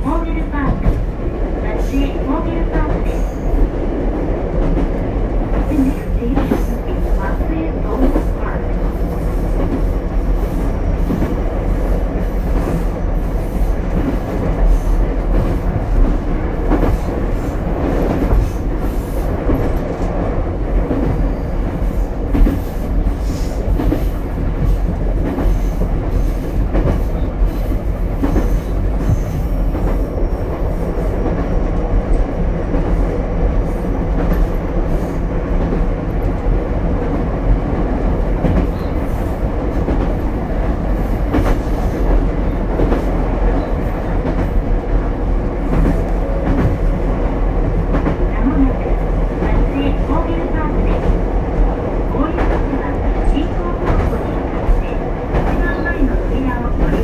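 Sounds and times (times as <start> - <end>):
train car rumbling: 0.0 - 57.0.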